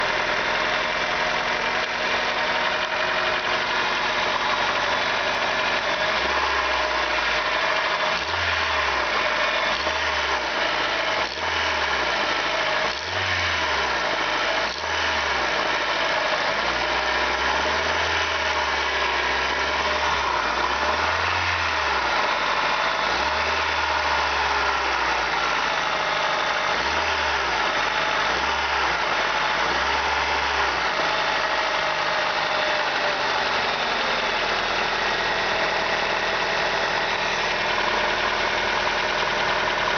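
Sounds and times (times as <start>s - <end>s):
engine idling with knock: 0.0s - 39.9s.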